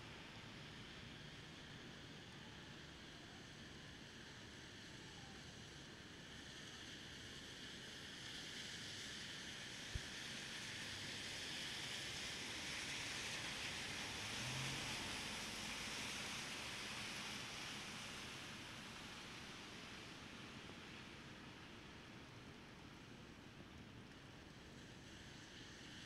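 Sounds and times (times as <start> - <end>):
rain hissing on street: 0.0 - 26.0.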